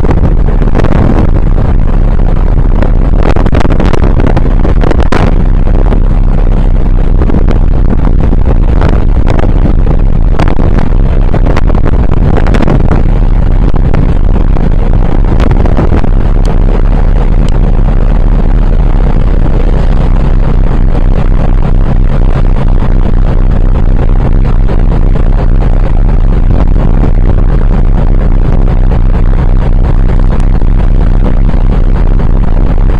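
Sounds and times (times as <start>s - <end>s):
scattered crackles: 0.0s - 32.9s
wind buffeting microphone: 0.0s - 32.9s.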